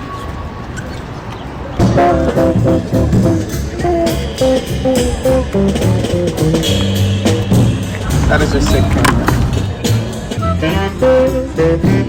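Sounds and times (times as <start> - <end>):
bass line: 1.8 - 12.0.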